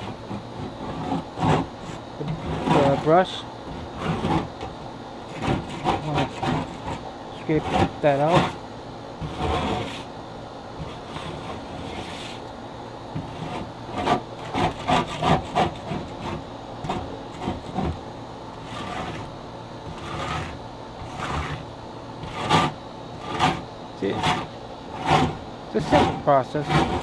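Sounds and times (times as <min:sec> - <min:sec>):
grill brush scraping grill: 0:00.0 - 0:08.6, 0:09.2 - 0:10.2, 0:10.8 - 0:12.5, 0:13.1 - 0:27.0.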